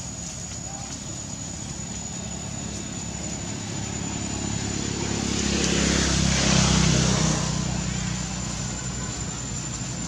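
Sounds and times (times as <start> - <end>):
vehicle engine hum: 0.0 - 10.0.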